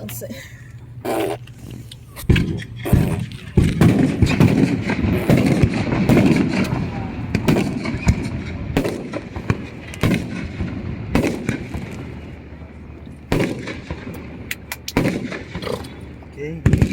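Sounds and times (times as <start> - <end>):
fireworks and firecrackers banging: 1.7 - 16.9.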